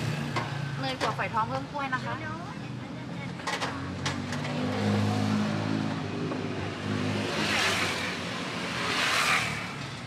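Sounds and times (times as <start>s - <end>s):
vehicles passing by: 0.0s - 10.0s.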